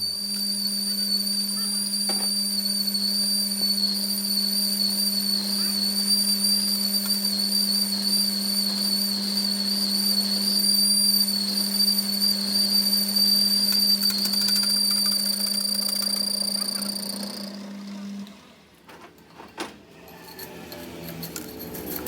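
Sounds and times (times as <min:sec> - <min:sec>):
high-pitched whistling whine: 0:00.0 - 0:18.7, 0:20.1 - 0:22.0.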